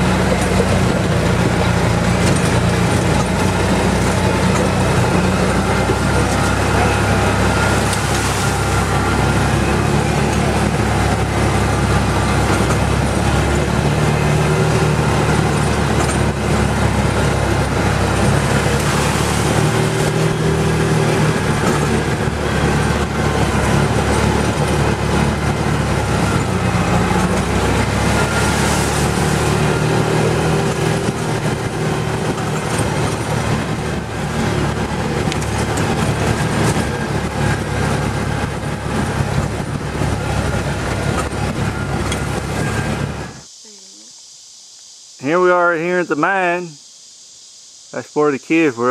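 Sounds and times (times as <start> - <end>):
atv engine under load: 0.0 - 43.4
rattle and rush of noise: 0.0 - 48.9.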